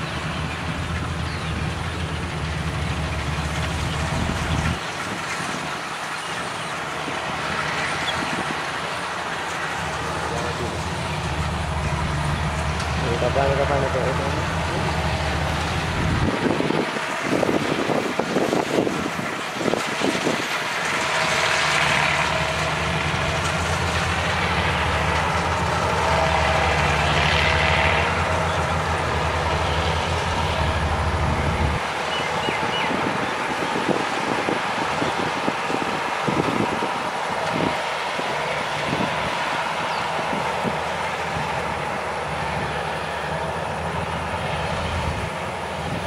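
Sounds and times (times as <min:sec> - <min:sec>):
combine harvester engine hum: 0:00.0 - 0:46.0
rushing noise of harvester: 0:00.0 - 0:46.0.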